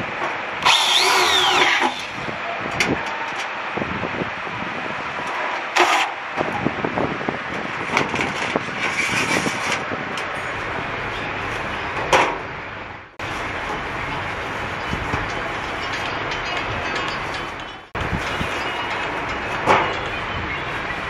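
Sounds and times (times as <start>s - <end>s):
workshop noise: 0.0s - 21.0s.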